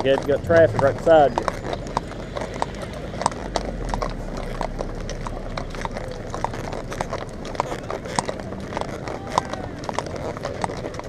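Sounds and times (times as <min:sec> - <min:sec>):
horse hooves clip-clopping on pavement: 0:00.0 - 0:11.0.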